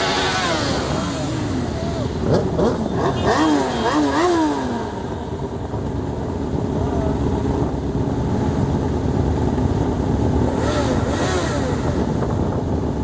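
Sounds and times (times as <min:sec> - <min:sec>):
many motorcycle engines rumbling: 0:00.0 - 0:13.0.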